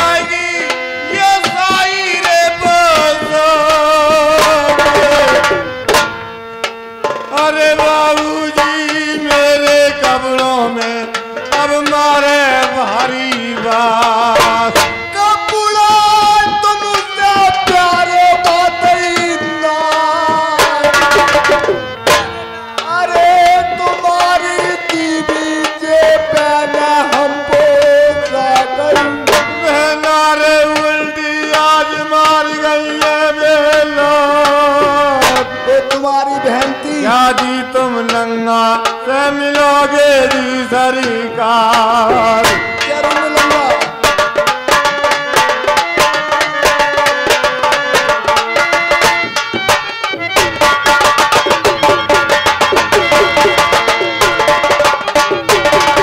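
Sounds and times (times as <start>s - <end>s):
man singing: 0.0s - 5.8s, 7.2s - 49.6s, 50.9s - 56.0s.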